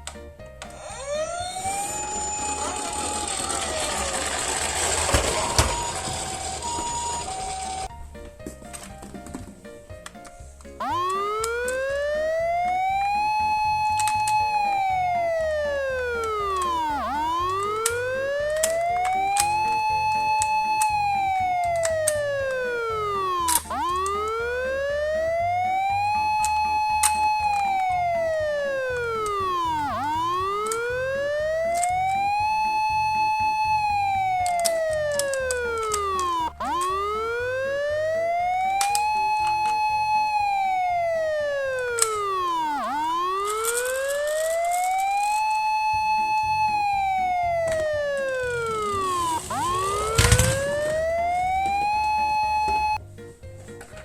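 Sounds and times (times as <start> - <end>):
siren wailing: 0.6 - 7.9, 10.8 - 53.0.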